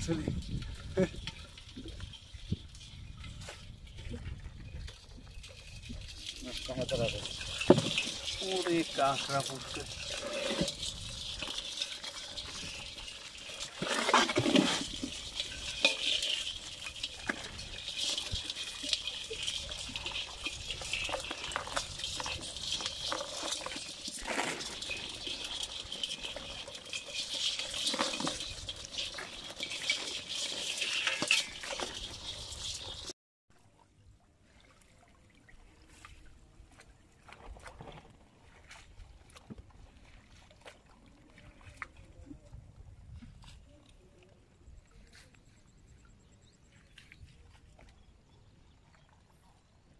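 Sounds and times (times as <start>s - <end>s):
crabs scrabbling in a tub: 0.0s - 33.2s, 34.0s - 49.9s.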